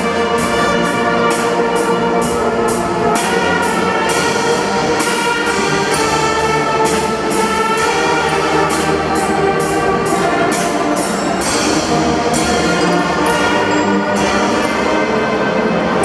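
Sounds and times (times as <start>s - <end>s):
brass and wind melody: 0.0s - 16.0s
drums: 0.0s - 16.0s
sharp cymbal hits: 0.0s - 16.0s.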